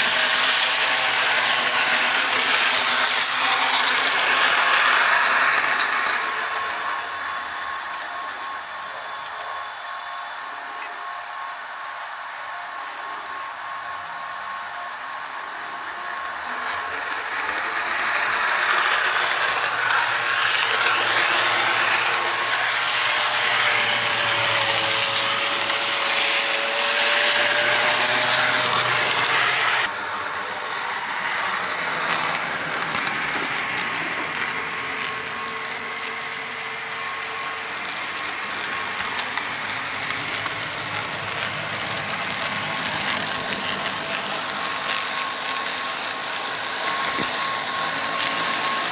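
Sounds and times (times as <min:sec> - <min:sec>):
model locomotive motor whirring: 0:00.0 - 0:48.9.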